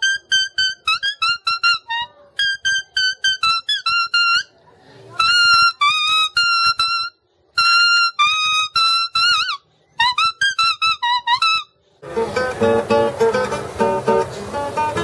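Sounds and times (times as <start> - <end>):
leaf blown as a reed melody: 0.0 - 15.0.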